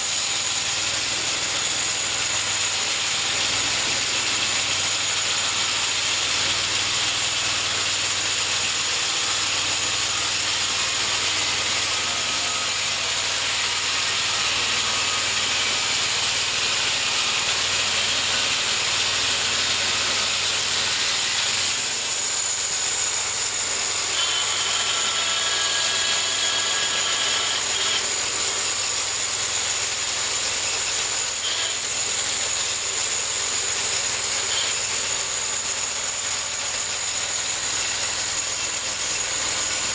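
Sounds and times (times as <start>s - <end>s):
bandsaw mill sawing log: 0.0s - 39.9s.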